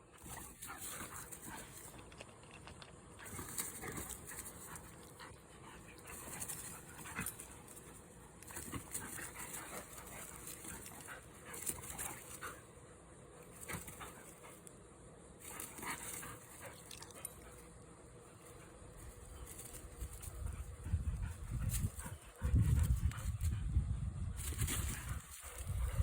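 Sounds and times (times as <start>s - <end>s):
dogs playing: 0.0s - 26.0s.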